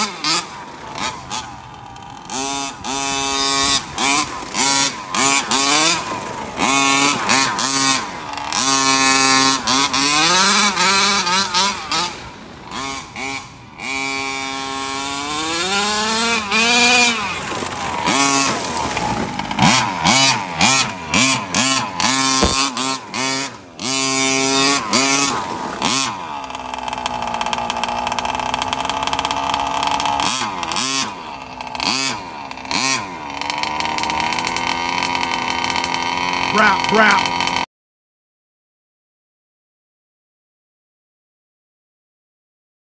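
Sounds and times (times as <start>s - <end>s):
small two-stroke engine revving: 0.0s - 37.7s.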